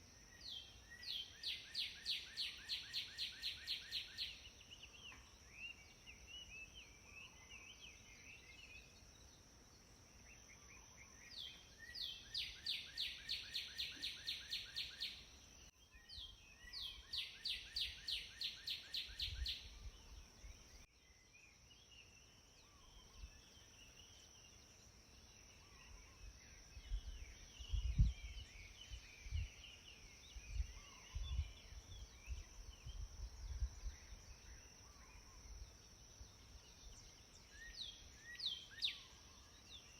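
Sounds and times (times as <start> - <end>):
soft bird chirps: 0.0 - 39.9
songbird singing: 0.0 - 39.9.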